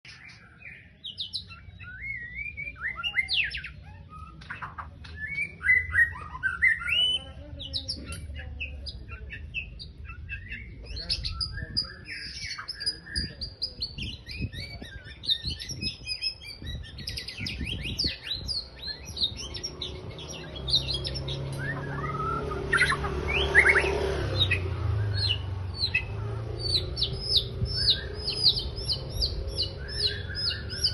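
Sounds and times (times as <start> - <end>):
bird singing whistles and trills: 0.1 - 30.9.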